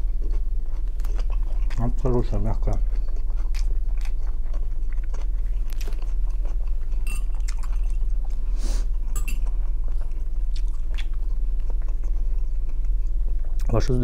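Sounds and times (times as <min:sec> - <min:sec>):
low electrical hum: 0:00.0 - 0:14.0
chewing mouth clicks and smacks: 0:00.2 - 0:01.9, 0:02.6 - 0:08.0, 0:09.1 - 0:13.7.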